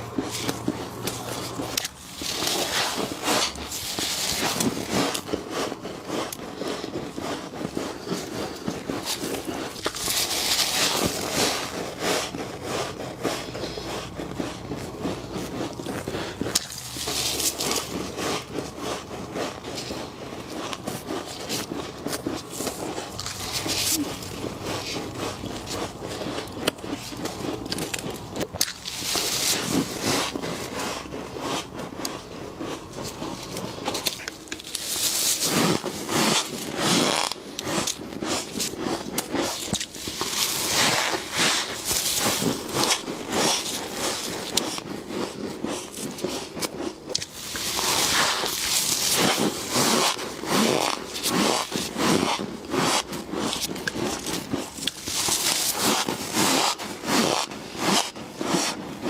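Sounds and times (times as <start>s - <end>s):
frost crunching and scraping: 0.0s - 59.0s.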